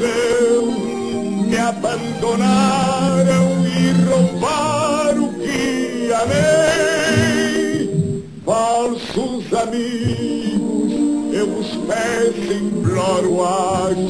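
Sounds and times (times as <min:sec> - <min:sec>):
instrumental accompaniment: 0:00.0 - 0:14.0
man singing operatically: 0:00.0 - 0:14.0.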